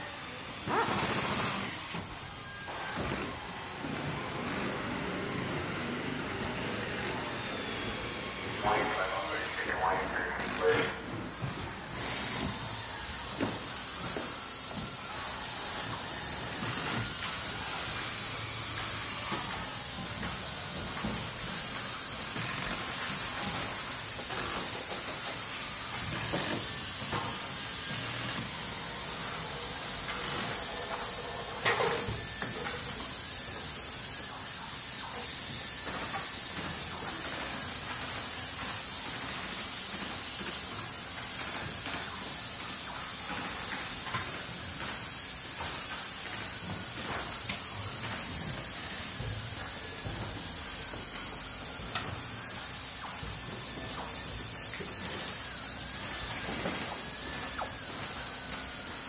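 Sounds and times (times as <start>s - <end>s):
hiss of running machines: 0.0s - 59.0s.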